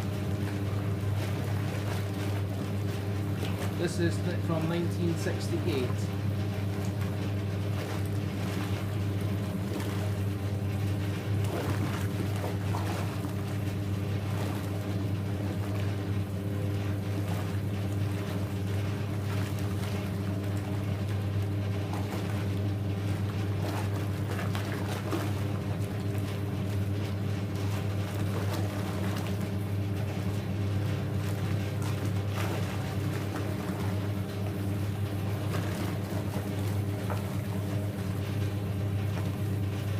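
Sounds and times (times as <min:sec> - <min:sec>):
washing machine motor hum: 0:00.0 - 0:39.9
water churning in a tub: 0:00.0 - 0:39.9.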